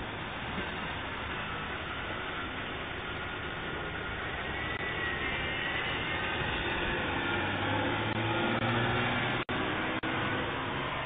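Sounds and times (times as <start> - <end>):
car driving by: 0.8 - 11.0.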